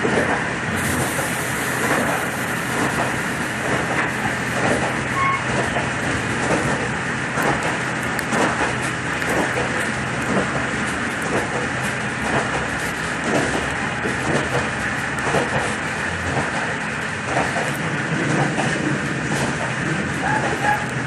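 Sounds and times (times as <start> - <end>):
moving vehicle running noise: 0.0 - 21.0.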